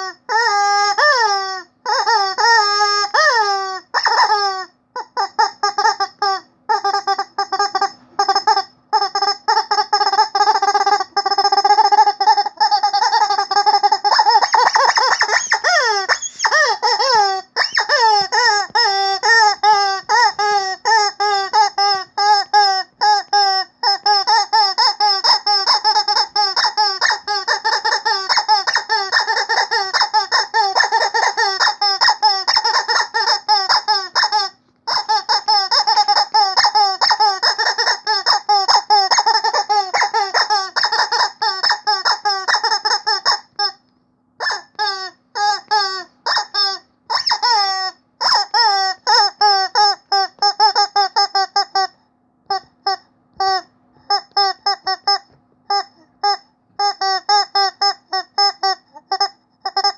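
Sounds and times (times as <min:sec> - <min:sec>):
rubber chicken toy squeaking: 0:00.0 - 0:59.9.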